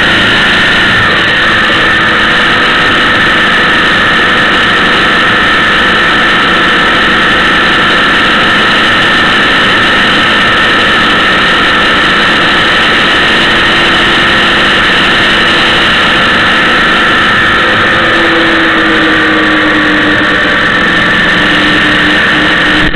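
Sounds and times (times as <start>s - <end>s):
travel noise: 0.0s - 22.9s
vehicle engine running: 0.0s - 22.9s.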